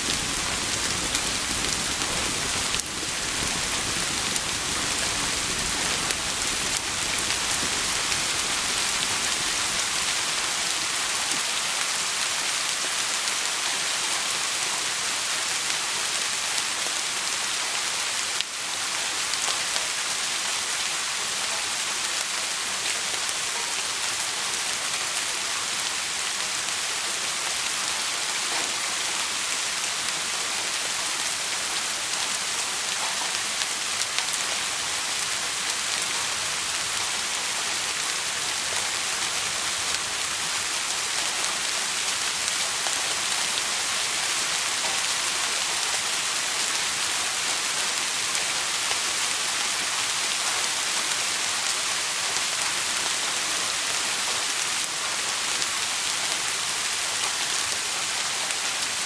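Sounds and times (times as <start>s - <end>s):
dense rain falling: 0.0s - 59.0s.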